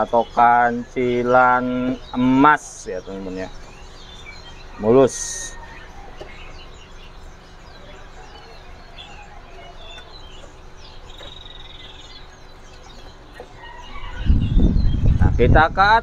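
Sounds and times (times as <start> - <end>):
low steady hum: 0.0 - 16.0
songbirds chirping and calling: 0.0 - 16.0.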